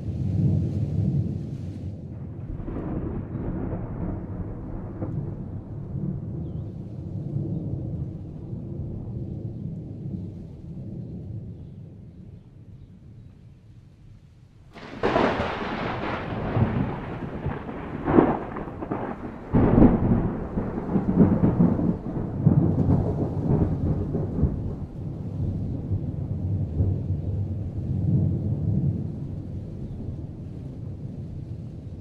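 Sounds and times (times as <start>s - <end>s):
thunder cracks and rumbles: 2.0s - 11.5s, 14.8s - 32.0s.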